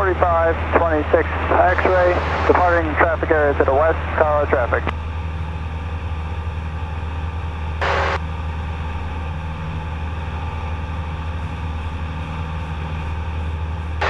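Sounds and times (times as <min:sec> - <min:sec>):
small plane engine and propeller drone: 0:00.0 - 0:14.0.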